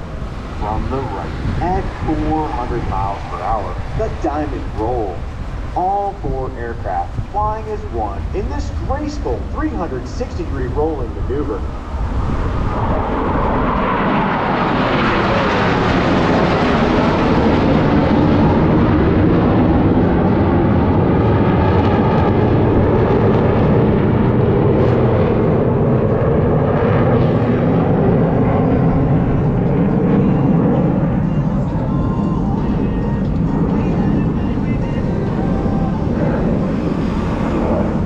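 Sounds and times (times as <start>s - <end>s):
jet roar: 0.0s - 38.0s.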